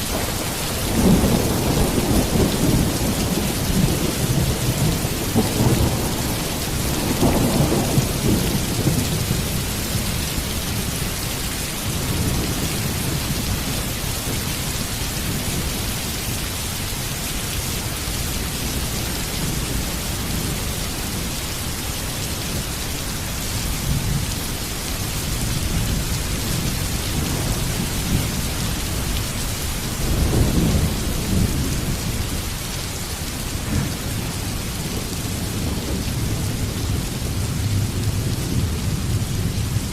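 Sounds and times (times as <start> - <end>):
low thunder rumbles: 0.0 - 16.7, 22.3 - 39.9
heavy rain falling: 0.0 - 39.9.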